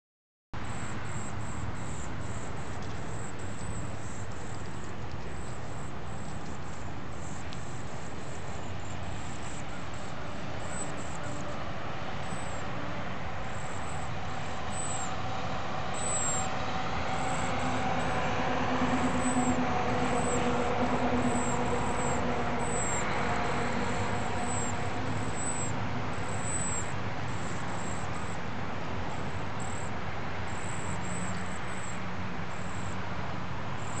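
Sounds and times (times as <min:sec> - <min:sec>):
distant engine drone: 0:00.6 - 0:34.0.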